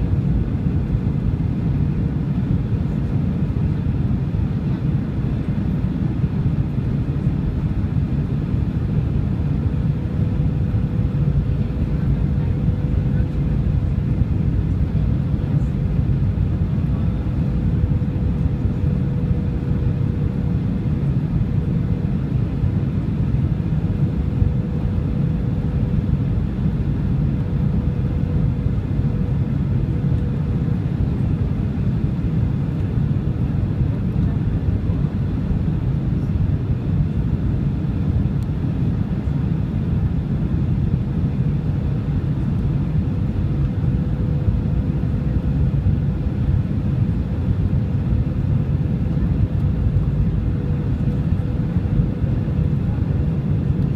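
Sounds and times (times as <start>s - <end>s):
airplane cabin engine rumble: 0.0s - 53.9s.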